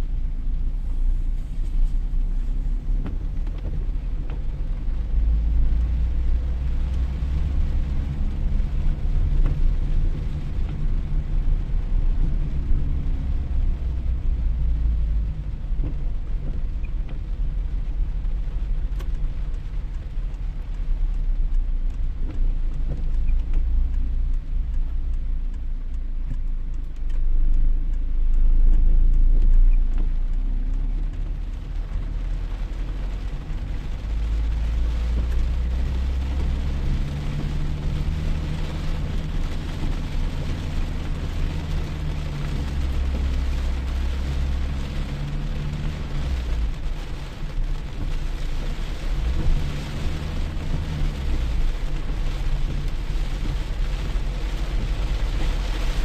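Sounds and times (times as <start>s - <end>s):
heavy low rumble: 0.0s - 56.0s
rain falling: 0.0s - 56.0s.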